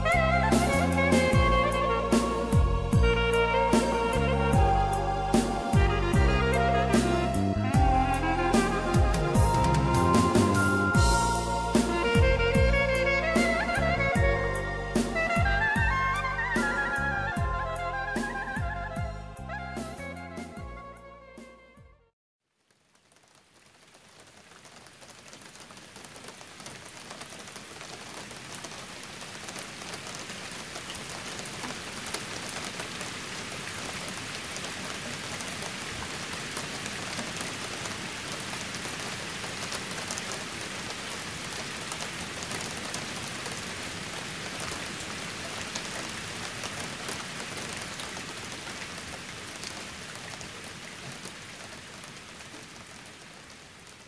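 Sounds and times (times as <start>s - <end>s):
steady rain falling: 0.0s - 20.3s, 22.4s - 54.0s.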